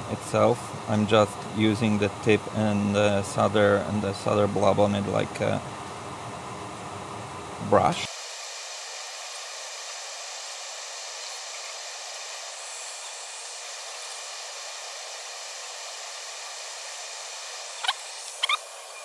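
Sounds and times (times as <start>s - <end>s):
fume extractor air hiss: 0.0s - 19.0s.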